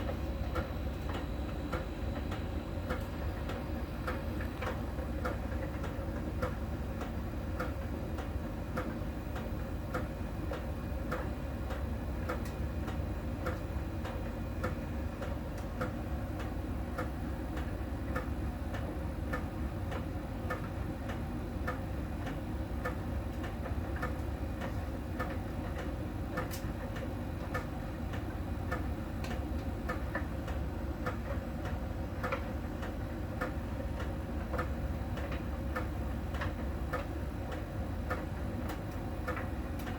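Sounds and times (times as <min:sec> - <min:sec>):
tumble dryer drum hum: 0:00.0 - 0:39.9.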